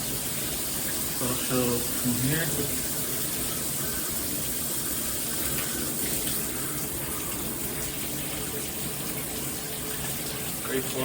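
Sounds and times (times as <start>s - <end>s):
water spraying from shower head: 0.0s - 11.0s.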